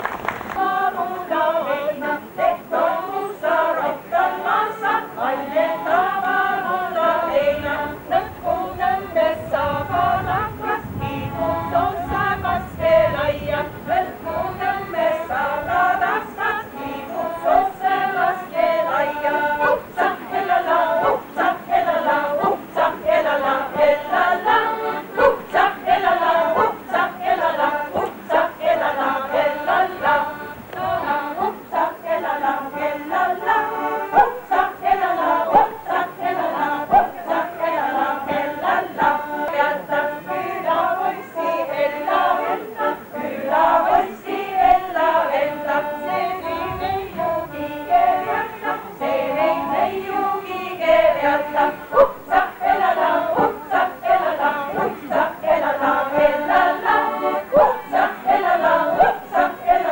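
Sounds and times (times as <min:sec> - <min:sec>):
choir singing a cappella: 0:00.0 - 0:59.9.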